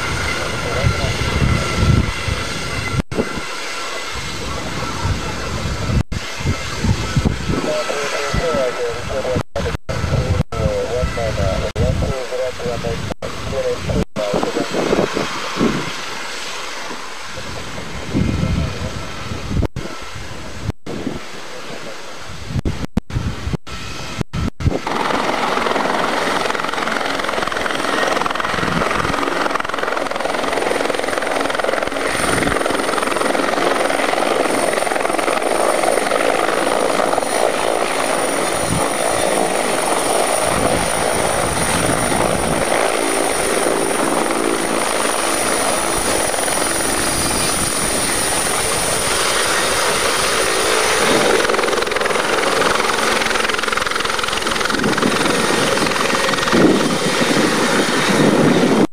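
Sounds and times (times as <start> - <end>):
helicopter rotor and turbine: 0.0 - 58.9
high-pitched turbine whine: 0.0 - 58.9.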